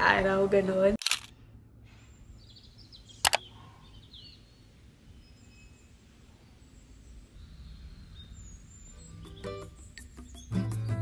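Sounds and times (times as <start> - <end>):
birds chirping and whistling: 1.9 - 11.0.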